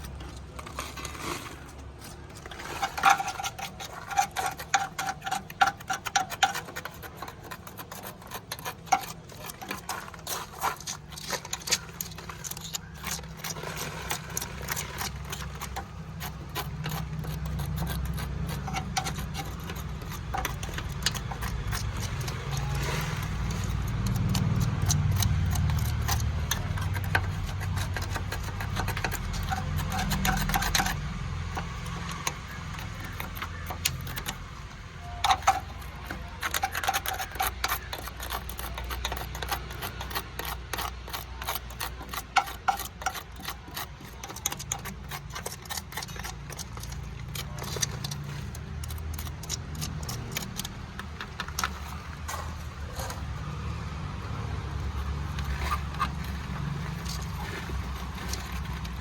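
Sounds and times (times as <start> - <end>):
metallic clicking and clinking: 2.0 - 59.0.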